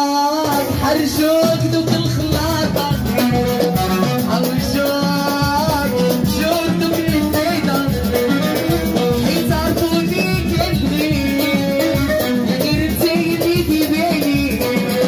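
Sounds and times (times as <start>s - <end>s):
lively percussion beat: 0.0s - 15.0s
melodic instrumental line: 0.0s - 15.0s.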